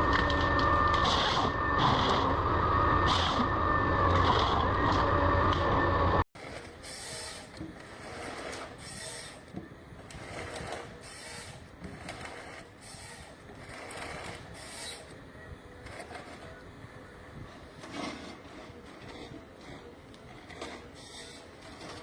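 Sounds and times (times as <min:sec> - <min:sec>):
machinery rattling and rubbing: 0:00.0 - 0:22.0
vehicle noise: 0:00.0 - 0:22.0.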